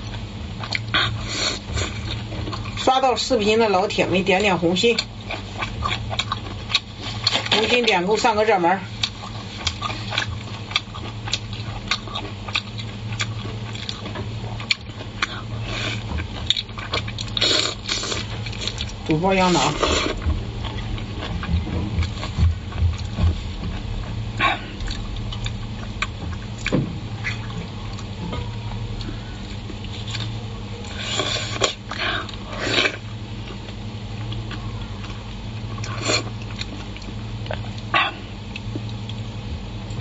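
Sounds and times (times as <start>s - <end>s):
wet chewing and lip-smacking: 0.0s - 2.9s, 4.8s - 8.0s, 9.0s - 39.3s
steady low hum: 0.0s - 40.0s.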